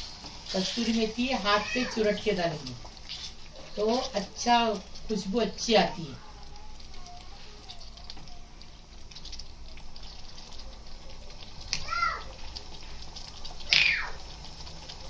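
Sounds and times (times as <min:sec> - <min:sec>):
gravy bubbling in a pan: 0:00.0 - 0:15.0.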